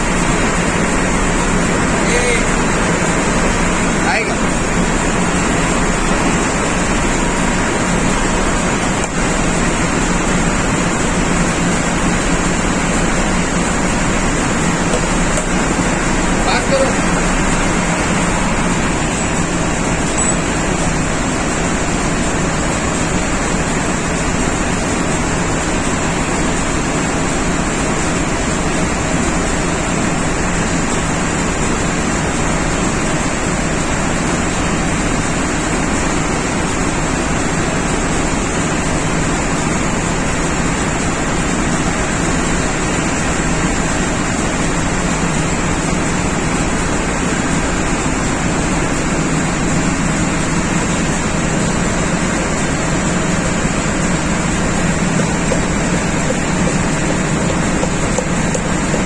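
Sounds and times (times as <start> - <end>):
machinery drone with high whine: 0.0 - 59.0.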